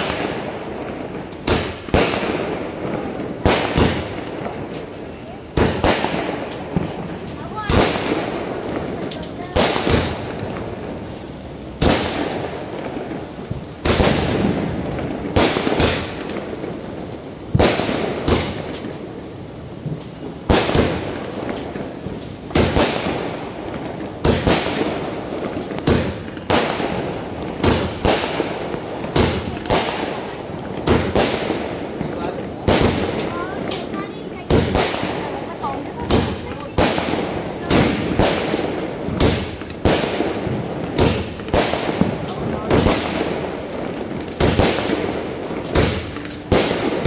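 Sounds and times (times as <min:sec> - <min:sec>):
fireworks bangs: 0:00.0 - 0:47.0.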